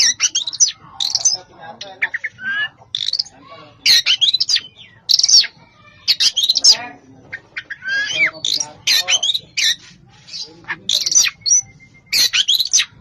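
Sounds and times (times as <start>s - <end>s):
songbird chirping and rattling: 0.0s - 13.0s.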